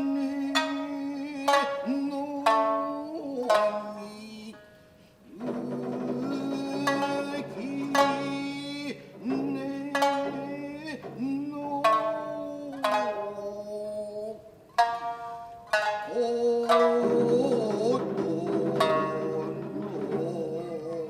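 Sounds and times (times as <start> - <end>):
person chanting long notes: 0.0 - 4.5, 5.3 - 21.0
plucked shamisen: 0.0 - 21.0.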